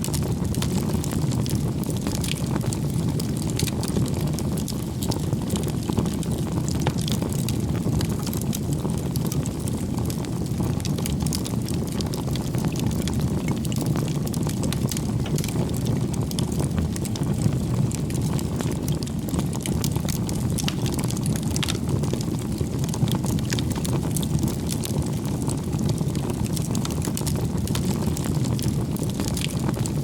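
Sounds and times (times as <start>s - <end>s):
fire crackling and popping: 0.0s - 30.0s
roar of bonfire flames: 0.0s - 30.0s.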